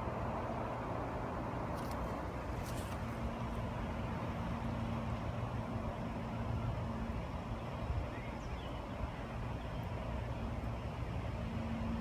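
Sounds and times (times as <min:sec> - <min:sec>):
low mechanical hum and rumble: 0:00.0 - 0:12.0.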